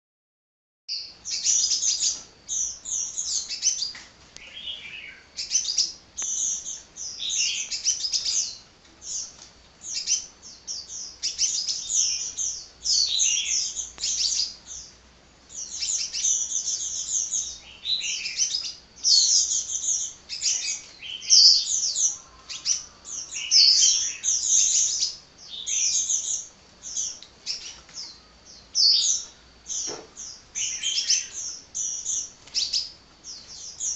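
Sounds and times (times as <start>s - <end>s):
bird chattering song: 0.9s - 33.9s.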